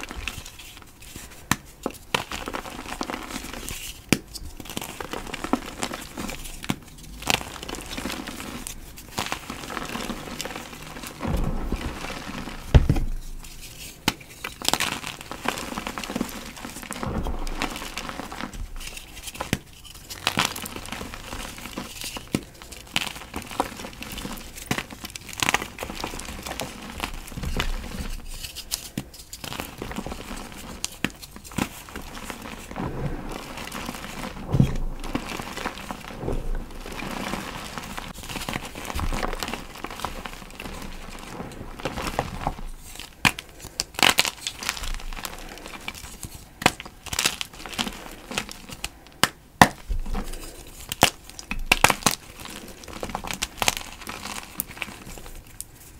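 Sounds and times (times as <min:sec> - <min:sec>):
packaging crinkling and crunching: 0:00.0 - 0:55.9
sharp crackles: 0:00.0 - 0:55.9.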